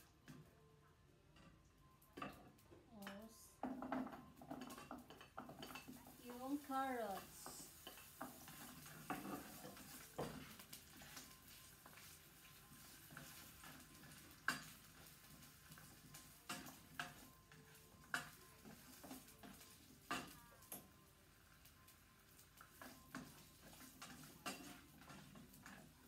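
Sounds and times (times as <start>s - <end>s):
utensils clinking against bowls: 2.2s - 20.8s, 22.7s - 26.0s.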